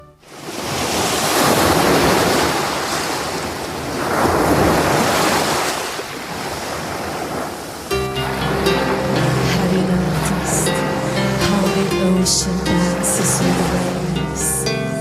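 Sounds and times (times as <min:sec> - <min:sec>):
ocean surf washing in: 0:00.2 - 0:15.0.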